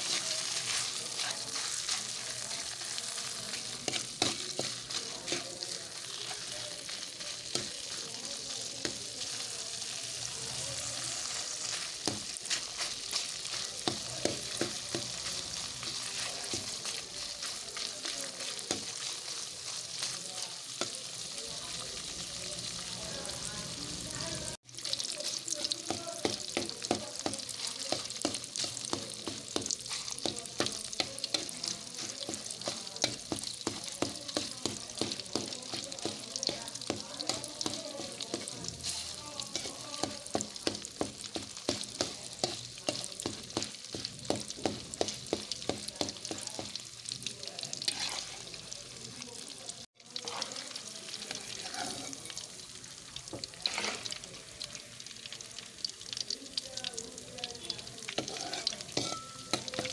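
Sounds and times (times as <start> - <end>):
metal spatula stirring: 0.0 - 10.1, 10.9 - 21.3, 24.7 - 48.7, 49.9 - 52.5, 53.2 - 54.2, 57.5 - 59.9
fish fat sizzling in oil: 0.0 - 59.9.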